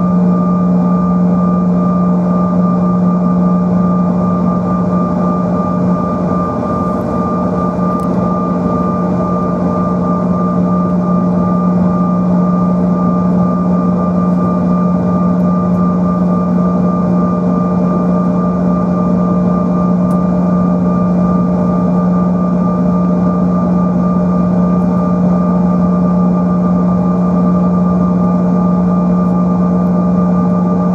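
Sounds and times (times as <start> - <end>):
high engine whines: 0.0 - 30.9
jet engines droning in cabin: 0.0 - 30.9.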